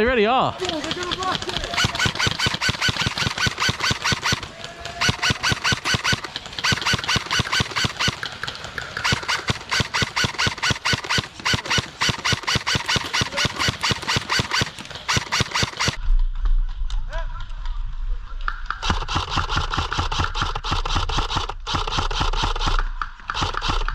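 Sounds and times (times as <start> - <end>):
airsoft gun rapid firing: 0.6 - 16.0, 18.8 - 23.9.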